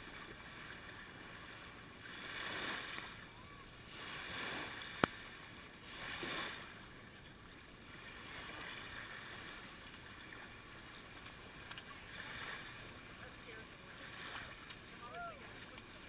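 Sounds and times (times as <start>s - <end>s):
small waves washing over sand: 0.0s - 16.0s.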